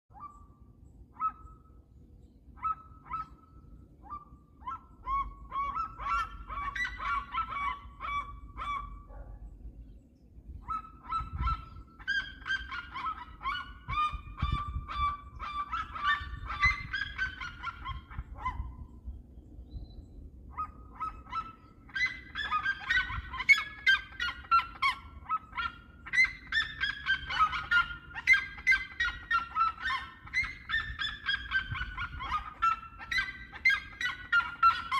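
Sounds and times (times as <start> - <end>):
birds yelping calls: 0.1 - 34.9.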